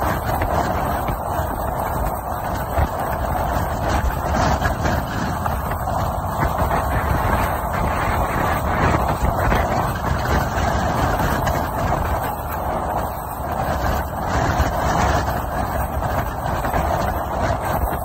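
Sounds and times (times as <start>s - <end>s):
boat motor running: 0.0s - 18.0s
rushing water: 0.0s - 18.0s
wind noise: 0.0s - 18.0s.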